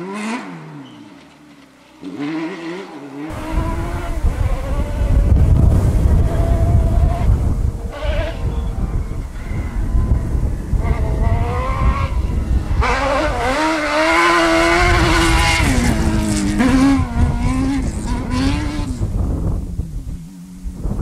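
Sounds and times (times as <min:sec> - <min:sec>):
buggy engine revving: 0:00.0 - 0:21.0.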